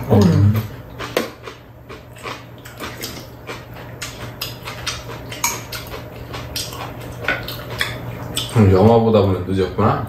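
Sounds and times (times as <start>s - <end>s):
slurping and chewing: 0.0s - 8.9s
low steady hum: 0.0s - 10.0s.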